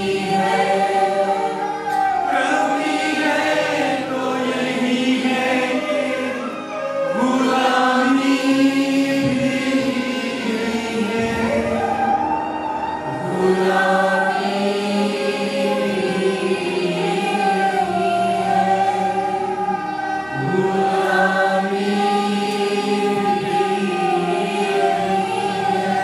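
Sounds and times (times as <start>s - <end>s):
choir singing long-held notes: 0.0s - 26.0s.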